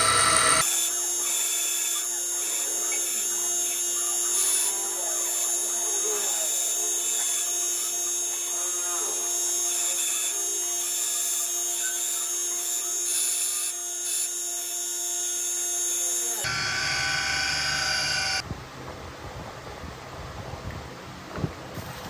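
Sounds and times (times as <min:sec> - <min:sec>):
lathe cutting metal: 0:00.0 - 0:18.4.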